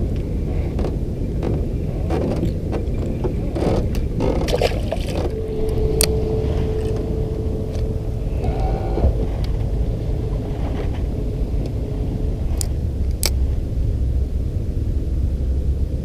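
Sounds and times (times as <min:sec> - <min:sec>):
steady hum: 0:00.0 - 0:16.0
wind rumbling on microphone: 0:00.0 - 0:16.0.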